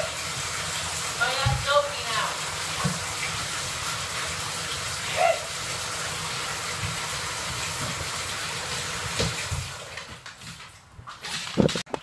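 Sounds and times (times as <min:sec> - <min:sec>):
water pouring into bathtub: 0:00.0 - 0:11.8.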